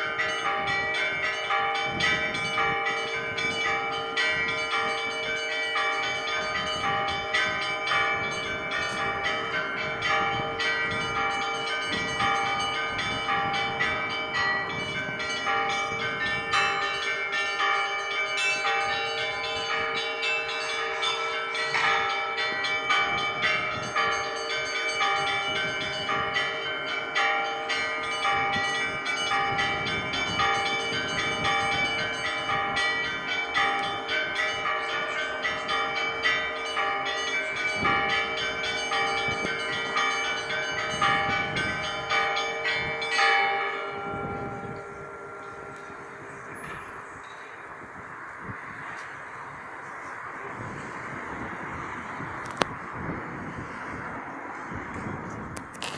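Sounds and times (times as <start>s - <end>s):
low bell ringing: 0.0s - 47.7s
church bells pealing: 0.0s - 52.6s.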